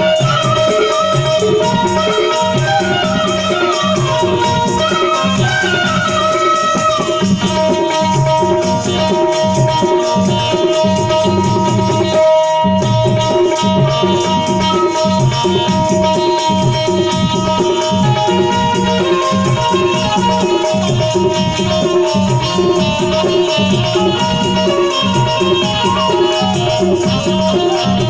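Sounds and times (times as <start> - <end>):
harmonium holding notes: 0.0 - 28.0
tabla rhythm: 0.0 - 28.0.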